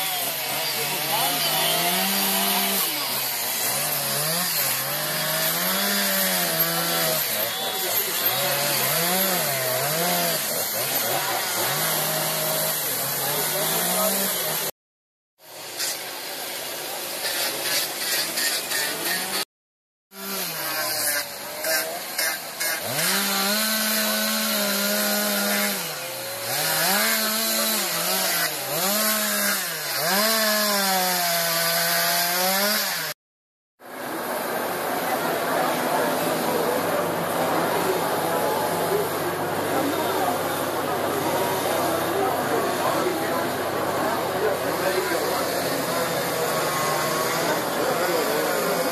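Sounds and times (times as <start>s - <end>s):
chainsaws revving: 0.0s - 14.7s, 17.1s - 19.5s, 20.1s - 33.2s, 34.1s - 48.9s.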